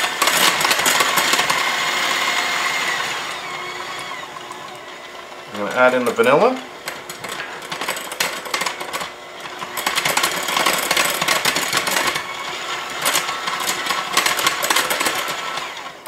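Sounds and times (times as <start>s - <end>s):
electric hand mixer whisking: 0.0s - 16.0s.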